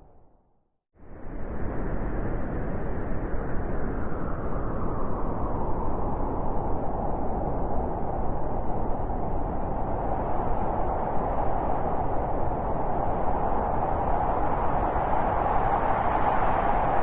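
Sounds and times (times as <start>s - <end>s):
wind blowing: 1.3s - 17.0s.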